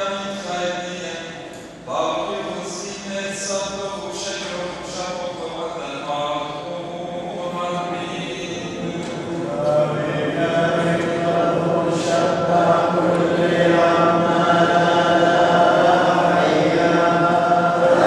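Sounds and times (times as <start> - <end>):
congregation singing a chant: 0.0 - 18.0.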